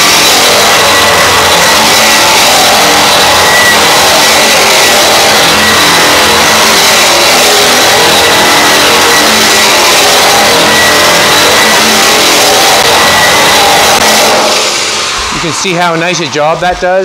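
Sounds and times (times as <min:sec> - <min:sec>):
stripping wheel scouring sheet steel: 0:00.0 - 0:16.8.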